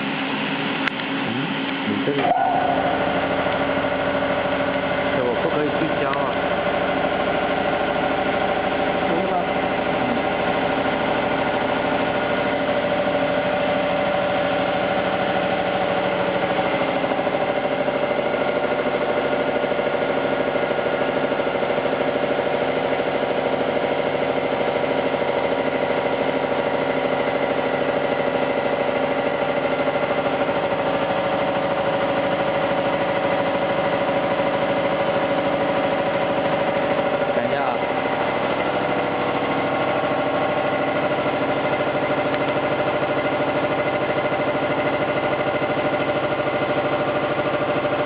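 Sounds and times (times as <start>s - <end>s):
machinery humming: 0.0s - 48.0s.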